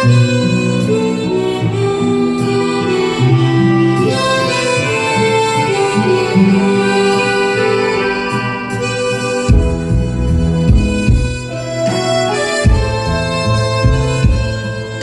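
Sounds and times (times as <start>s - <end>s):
harmonica playing slow melody: 0.0s - 15.0s.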